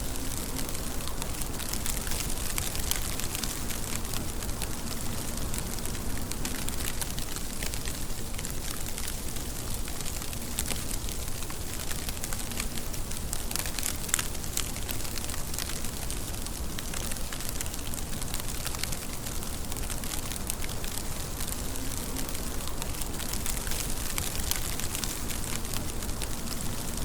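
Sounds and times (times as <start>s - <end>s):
rain drop ticks: 0.0s - 27.0s
steady rain falling: 0.0s - 27.0s.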